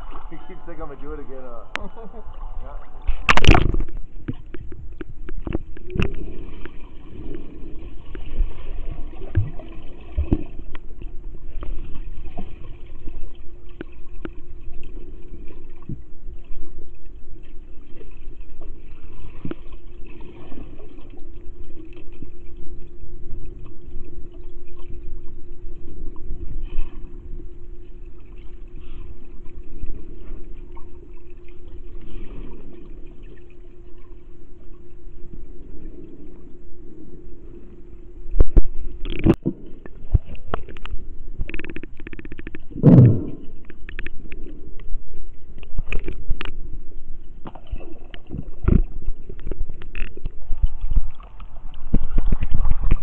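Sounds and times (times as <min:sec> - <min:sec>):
low hum: 0:00.0 - 0:53.0
water churning underwater: 0:00.0 - 0:53.0.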